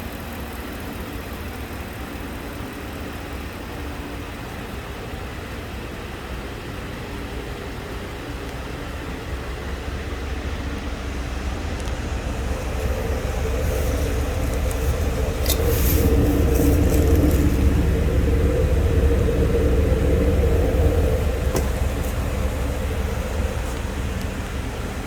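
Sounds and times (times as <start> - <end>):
engine running low rumble: 0.0 - 25.0.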